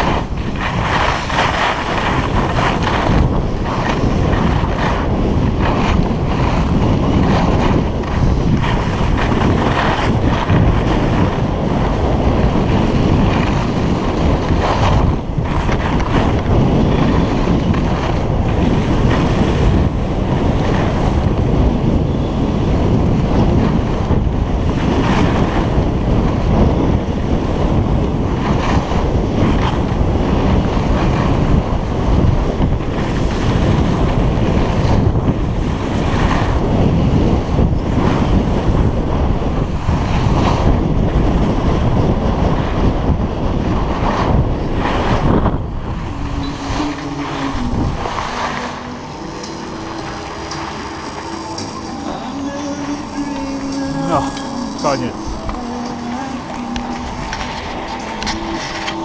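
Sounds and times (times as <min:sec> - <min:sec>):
skis scraping over snow: 0:00.0 - 0:59.0
wind buffeting microphone: 0:00.0 - 0:59.0.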